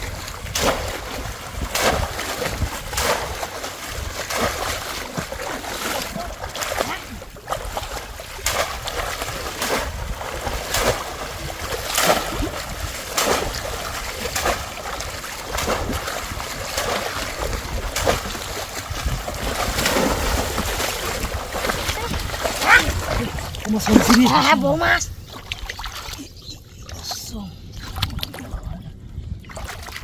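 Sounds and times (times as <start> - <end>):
splashes in shallow water: 0.0 - 28.8, 29.4 - 30.0.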